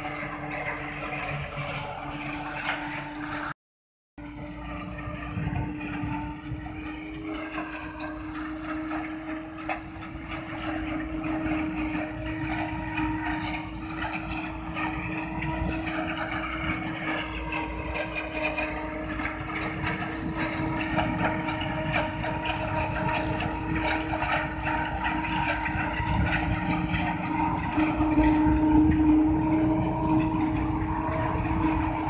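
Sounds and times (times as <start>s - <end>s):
harvester and truck engines droning: 0.0s - 3.6s, 4.2s - 32.0s.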